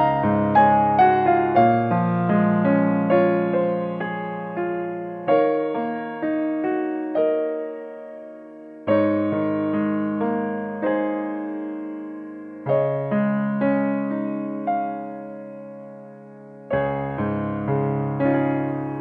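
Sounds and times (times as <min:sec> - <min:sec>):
soft piano music: 0:00.0 - 0:19.0.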